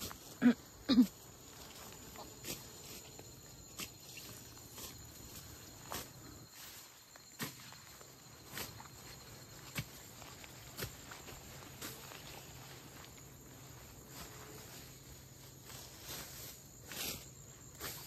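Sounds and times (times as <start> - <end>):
high insect chirring: 0.0 - 18.0
crunching footsteps: 1.0 - 16.3.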